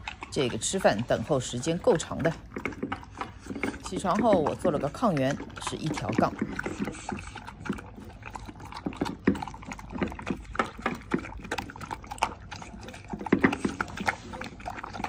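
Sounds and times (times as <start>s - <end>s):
dog chomping food: 0.0s - 15.0s.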